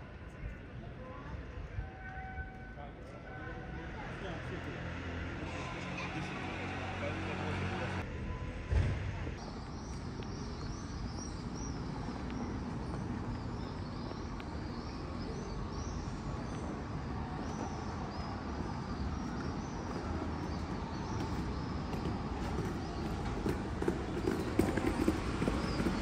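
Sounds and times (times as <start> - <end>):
low hum of traffic: 0.0 - 26.0.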